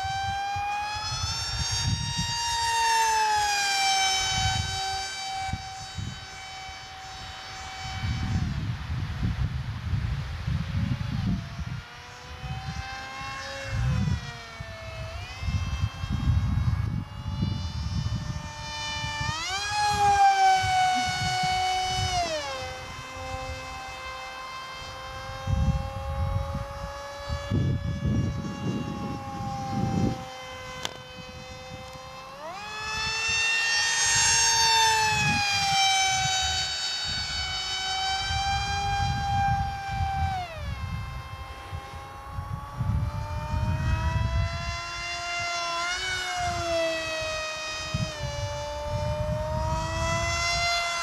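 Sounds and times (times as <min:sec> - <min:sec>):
model jet motor whining: 0:00.0 - 0:51.0.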